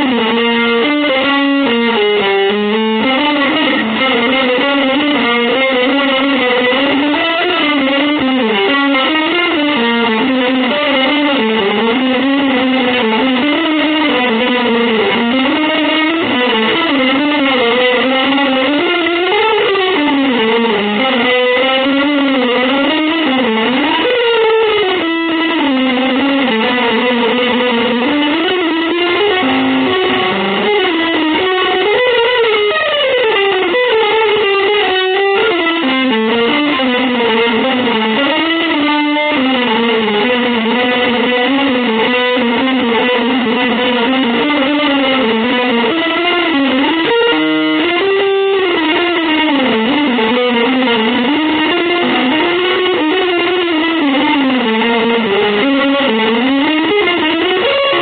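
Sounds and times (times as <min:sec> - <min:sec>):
electric guitar melody: 0:00.0 - 0:58.0.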